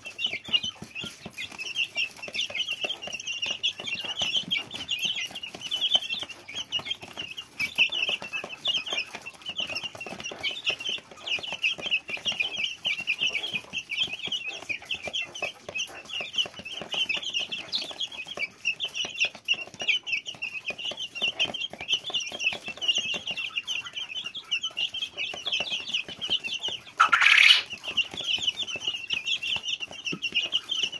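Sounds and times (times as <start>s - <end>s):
beaks pecking on tray: 0.0s - 30.9s
chicks peeping: 0.0s - 30.9s.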